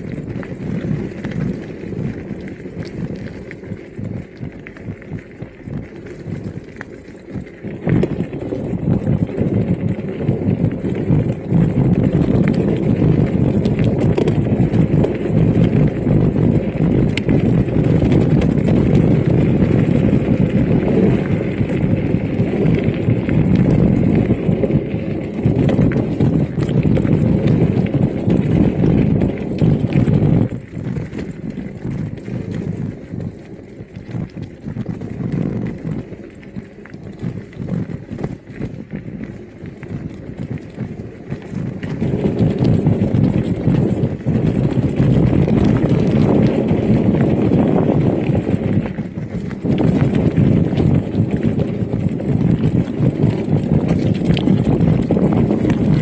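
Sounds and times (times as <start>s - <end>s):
bike rolling over rough trail: 0.0s - 56.0s.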